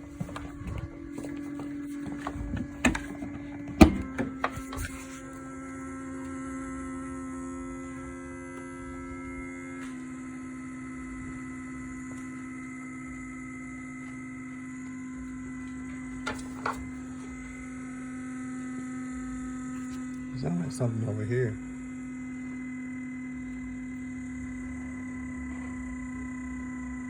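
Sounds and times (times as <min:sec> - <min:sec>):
electrical hum with whine: 0:00.0 - 0:27.0.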